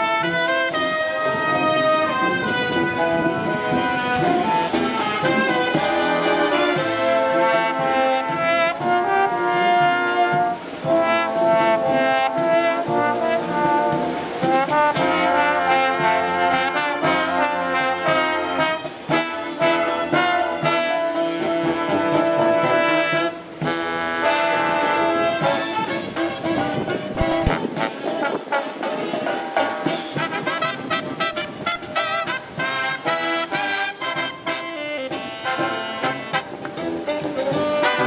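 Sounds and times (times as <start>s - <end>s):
cymbals: 0.0s - 38.0s
marching brass band playing: 0.0s - 38.0s
snare drum: 3.7s - 38.0s.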